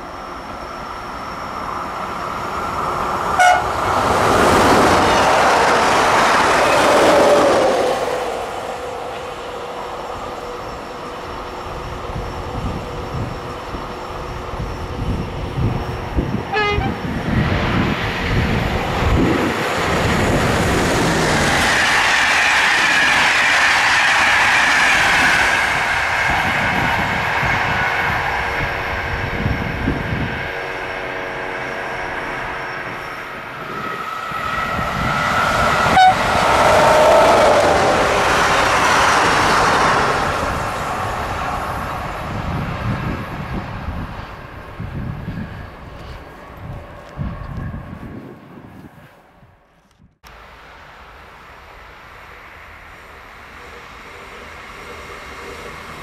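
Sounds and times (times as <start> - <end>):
train passing: 0.0 - 49.7, 50.3 - 56.0
rail rumble: 0.0 - 56.0.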